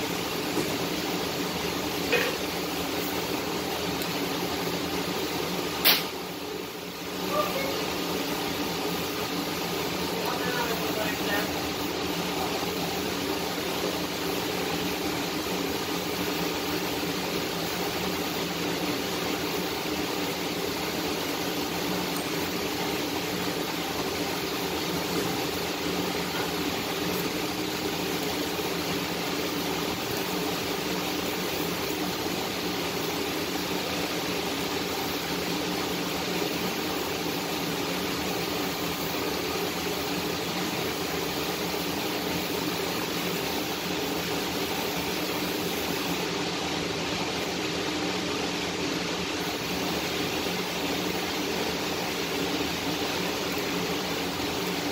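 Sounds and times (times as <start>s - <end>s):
welding torch flame hissing: 0.0s - 54.9s.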